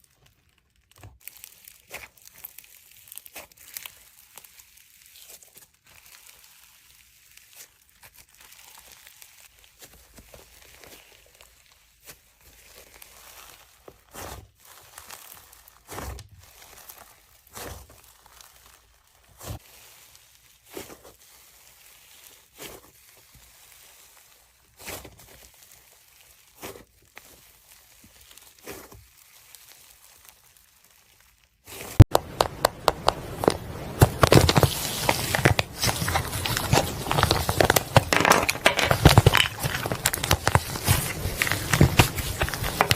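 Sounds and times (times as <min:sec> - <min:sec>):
slime crackling and crinkling: 0:00.0 - 0:42.9
slime squishing: 0:00.0 - 0:42.9.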